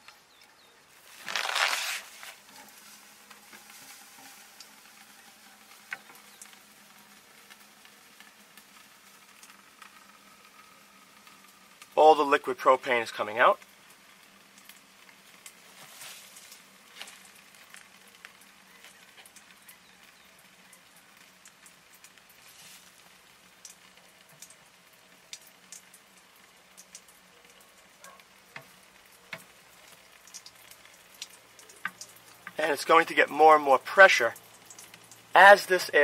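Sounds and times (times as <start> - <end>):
liquid gas sizzling and crackling: 0.0 - 36.0.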